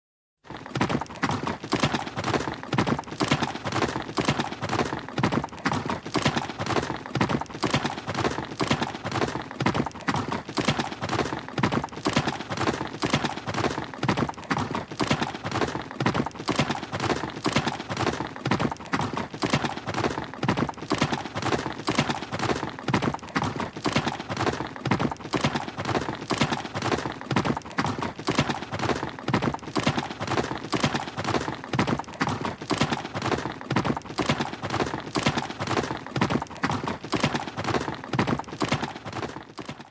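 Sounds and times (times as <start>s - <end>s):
horse hoofbeats galloping: 0.4s - 39.9s.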